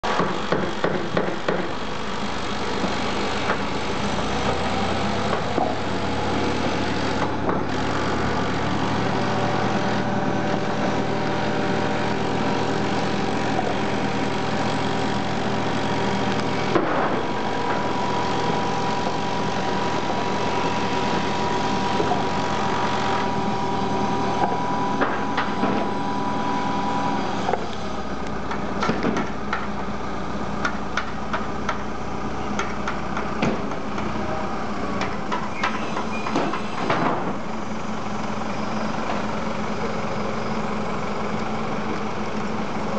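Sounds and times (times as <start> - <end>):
heavy vehicle engine idling: 0.0 - 42.9.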